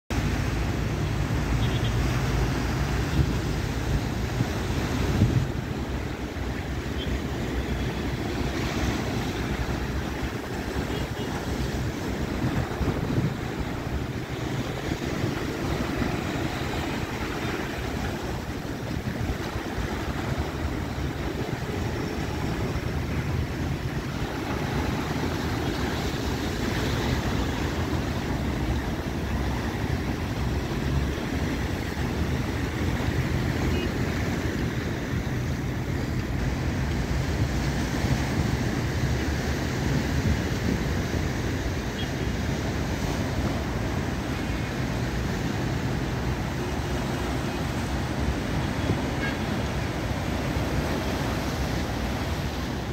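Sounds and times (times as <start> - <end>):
wind rumbling on microphone: 0.2 - 6.8, 7.6 - 52.9.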